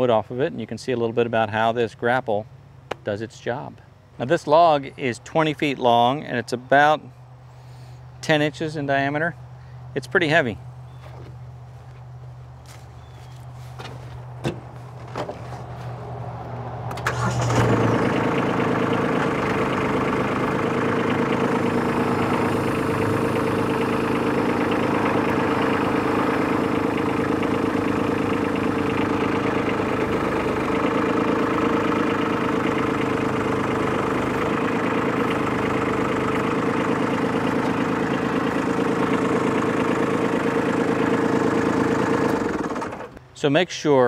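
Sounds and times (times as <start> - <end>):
tractor diesel engine running: 3.5 - 43.4.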